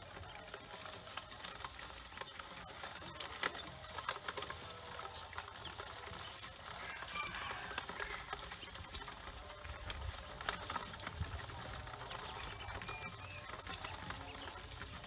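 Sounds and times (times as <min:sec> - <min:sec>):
ducklings peeping: 0:00.0 - 0:15.0
feet scratching on metal bowl: 0:00.0 - 0:15.0.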